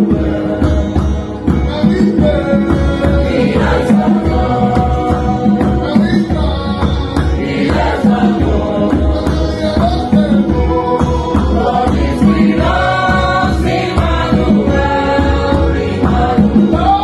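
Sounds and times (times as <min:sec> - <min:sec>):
drums and bass beat: 0:00.0 - 0:17.0
group of voices singing: 0:00.0 - 0:17.0.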